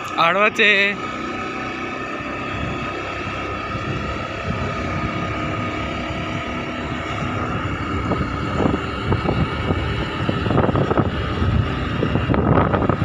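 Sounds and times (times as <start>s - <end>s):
motorcycle engine running: 0.0s - 13.0s
wind buffeting microphone: 1.0s - 13.0s.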